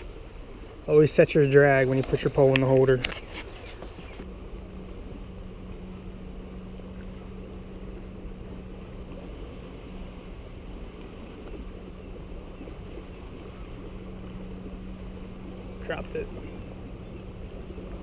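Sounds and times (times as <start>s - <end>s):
boat engine droning: 0.0s - 18.0s
wind and water noise: 0.0s - 18.0s.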